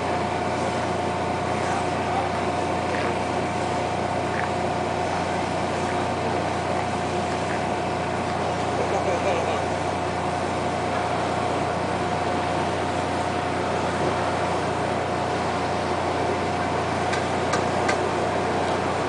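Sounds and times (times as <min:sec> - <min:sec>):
boat machinery droning: 0:00.0 - 0:19.0
constant high hum: 0:00.0 - 0:19.0.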